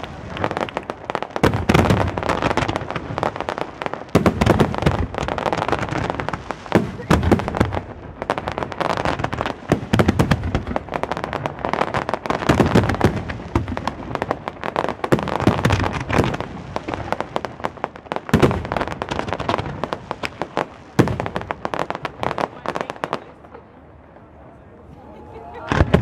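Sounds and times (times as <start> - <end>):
fireworks bangs and crackling: 0.0 - 24.4, 25.0 - 26.0.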